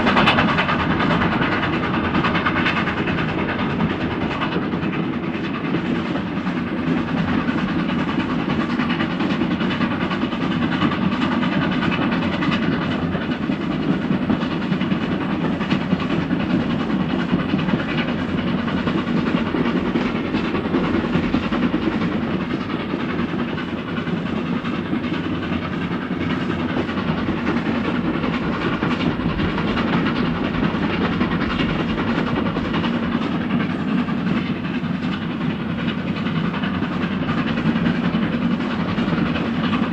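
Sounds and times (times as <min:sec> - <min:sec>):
steam train running on track: 0:00.0 - 0:39.9.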